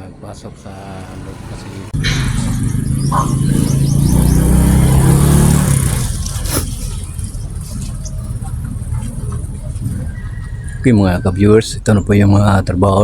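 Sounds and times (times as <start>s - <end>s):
vehicle engine passing: 0.0s - 12.8s.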